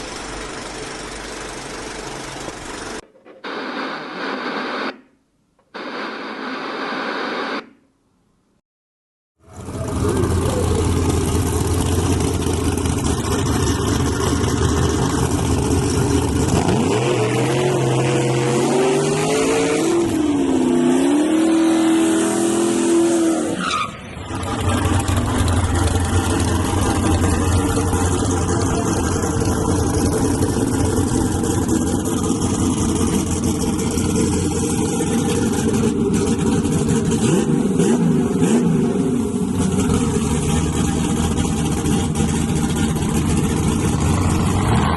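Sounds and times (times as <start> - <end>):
pickup truck engines at full throttle: 0.0 - 3.0, 9.4 - 44.9.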